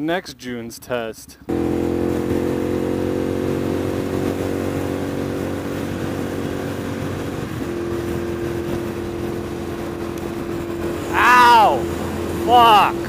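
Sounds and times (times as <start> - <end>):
motorcycle engine cruising: 1.5 - 13.0
wind and road noise: 1.5 - 13.0.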